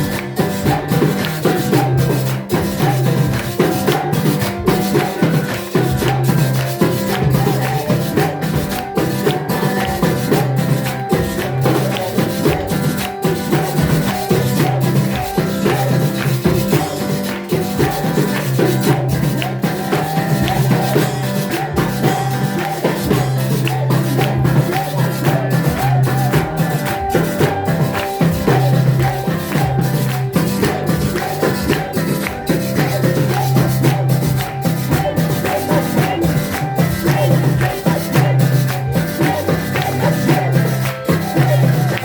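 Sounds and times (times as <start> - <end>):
drums: 0.0 - 42.0
shaken percussion: 0.0 - 42.0.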